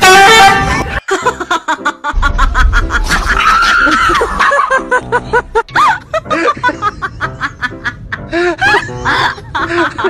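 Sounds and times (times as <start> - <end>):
background music: 0.0 - 10.0
person laughing: 0.4 - 10.0.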